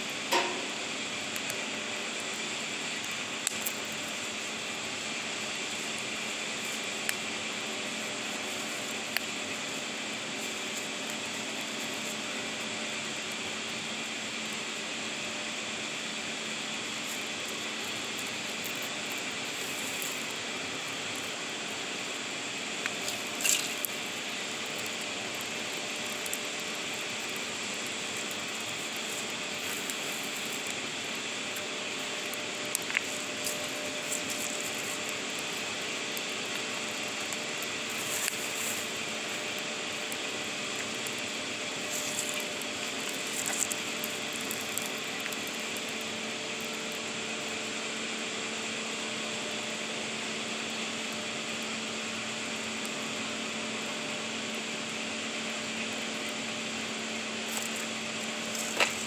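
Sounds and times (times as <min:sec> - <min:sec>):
faint hum: 0:00.0 - 0:59.0
fire crackling and popping: 0:00.0 - 0:59.0
steady rushing hiss: 0:00.0 - 0:59.0.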